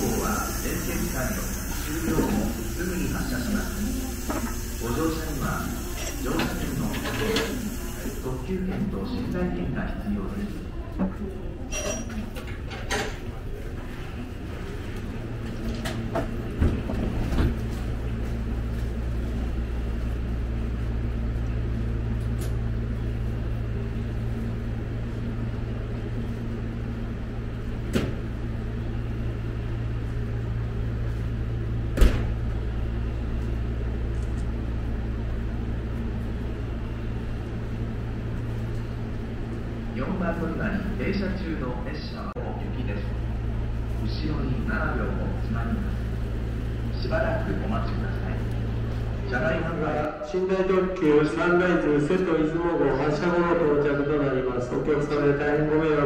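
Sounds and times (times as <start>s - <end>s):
train humming: 0.0s - 50.2s.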